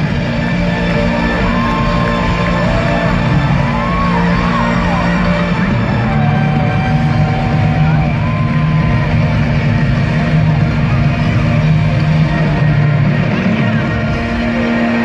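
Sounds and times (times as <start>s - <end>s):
heavy bass: 0.0s - 15.0s
live rock band playing: 0.0s - 15.0s.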